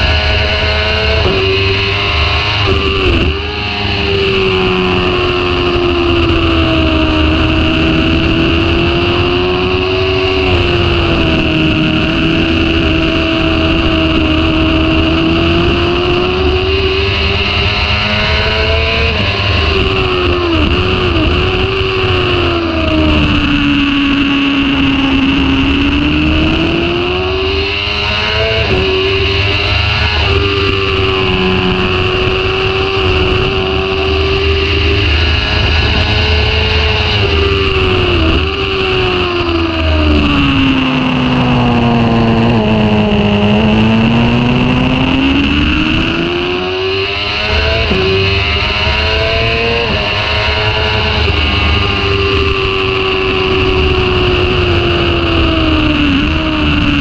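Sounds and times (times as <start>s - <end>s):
high-revving motorcycle engine: 0.0s - 57.0s.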